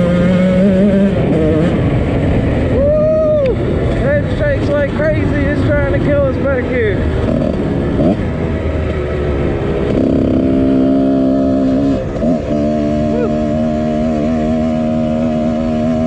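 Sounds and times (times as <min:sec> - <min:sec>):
dirt bike engine revving: 0:00.0 - 0:02.6, 0:03.9 - 0:16.0.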